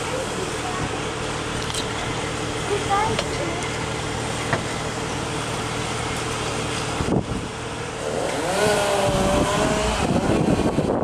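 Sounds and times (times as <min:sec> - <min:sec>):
engine revving: 0:00.0 - 0:11.0
wind: 0:00.0 - 0:11.0.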